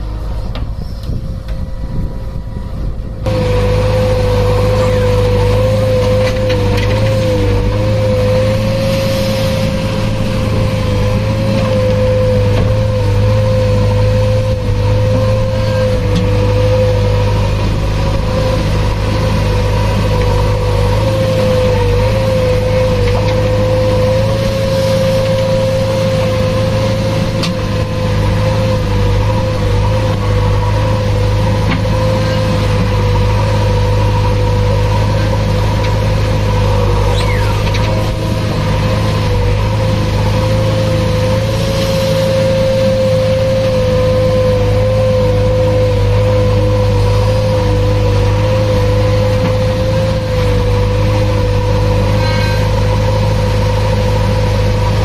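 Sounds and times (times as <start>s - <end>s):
diesel engine rumble: 0.0s - 55.0s
hydraulic whine: 0.0s - 55.0s.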